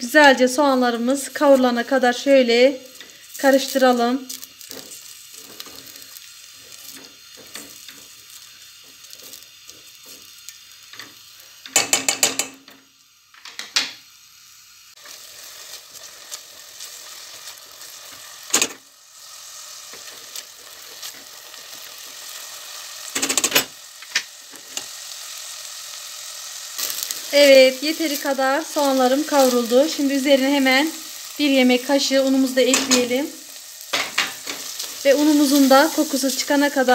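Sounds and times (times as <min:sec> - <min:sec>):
onion sizzling in oil: 0:00.0 - 0:36.9.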